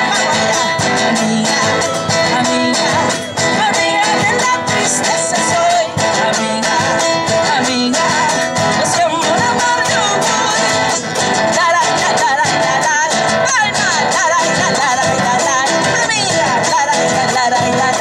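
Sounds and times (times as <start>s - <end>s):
strummed acoustic guitar: 0.0s - 18.0s
woman singing with vibrato: 0.0s - 18.0s.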